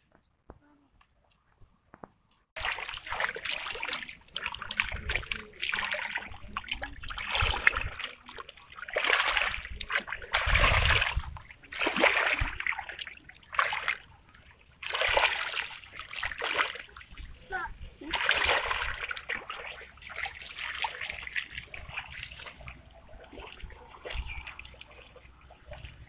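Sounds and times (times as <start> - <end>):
muddy water splashing: 2.6 - 26.0.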